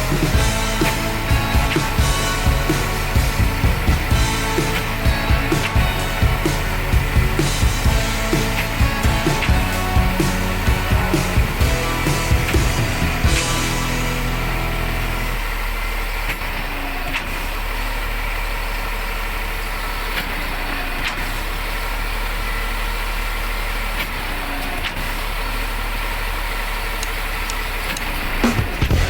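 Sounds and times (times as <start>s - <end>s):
concrete pump engine running: 0.0s - 29.0s.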